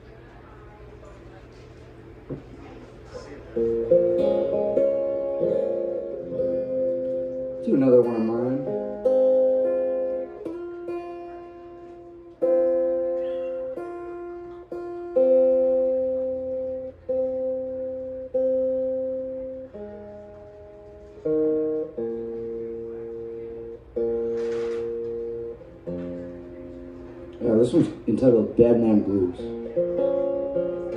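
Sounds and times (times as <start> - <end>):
acoustic guitar strings ringing: 3.5 - 30.9.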